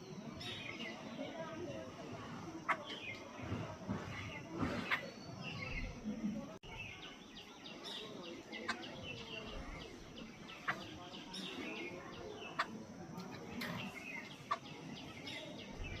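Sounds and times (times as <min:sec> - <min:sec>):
babblers chattering calls: 0:00.0 - 0:06.0, 0:06.7 - 0:16.0.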